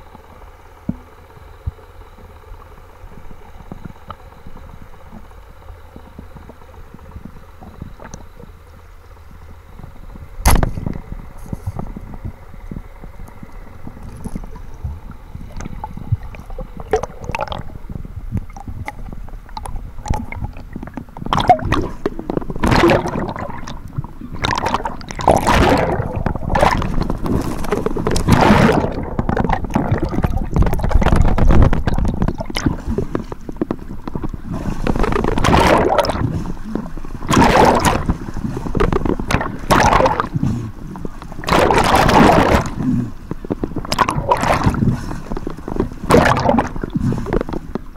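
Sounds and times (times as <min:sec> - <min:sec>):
underwater rumble: 0:00.0 - 0:47.9
waves splashing over camera: 0:02.8 - 0:47.9.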